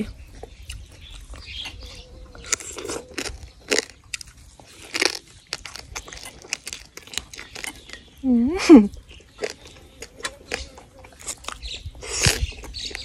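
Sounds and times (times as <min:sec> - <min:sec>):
wet chewing and crunching: 0:00.0 - 0:13.0.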